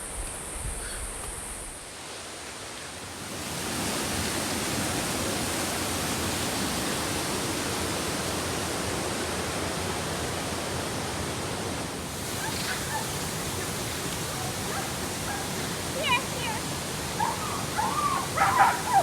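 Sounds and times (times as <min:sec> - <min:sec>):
waterfall rushing: 0:01.9 - 0:19.0.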